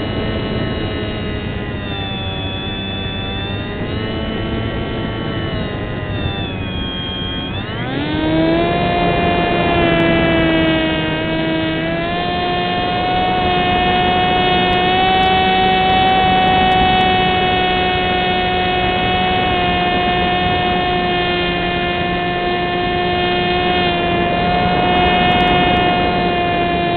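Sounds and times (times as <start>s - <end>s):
electric motor and propeller whine: 0.0s - 26.9s.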